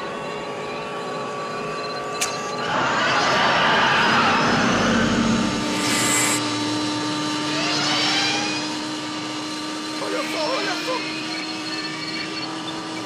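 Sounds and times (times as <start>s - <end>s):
car engine running loud: 0.0s - 13.0s.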